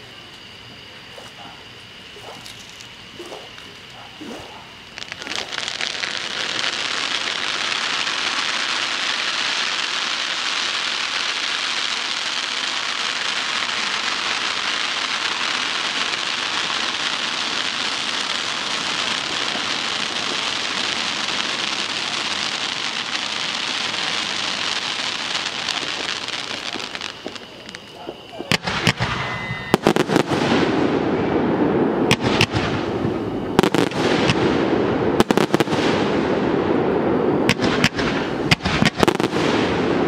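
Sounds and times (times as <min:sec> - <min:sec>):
firework fountains hissing: 0:00.0 - 0:40.0.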